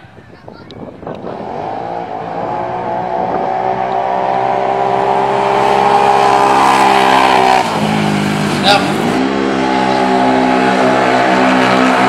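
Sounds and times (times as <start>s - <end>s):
atv engines revving high: 0.0s - 12.0s.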